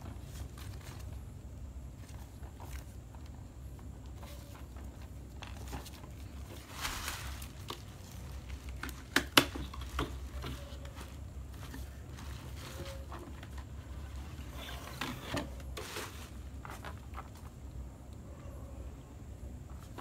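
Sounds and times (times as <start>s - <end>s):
soft rustle: 0.0s - 9.0s, 9.7s - 17.9s.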